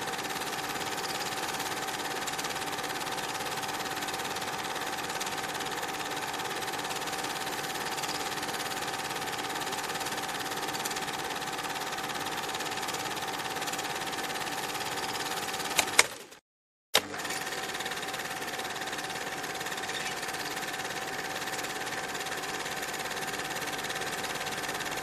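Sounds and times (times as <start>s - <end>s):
film projector whirring: 0.0s - 16.4s, 17.0s - 25.0s.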